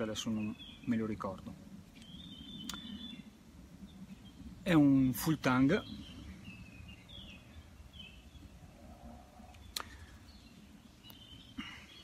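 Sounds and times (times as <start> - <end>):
faint bird chirps: 0.0 - 12.0
outdoor background noise: 0.0 - 12.0.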